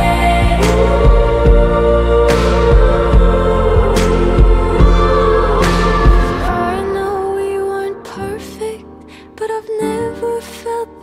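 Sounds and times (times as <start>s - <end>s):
soft slow pop music: 0.0s - 11.0s.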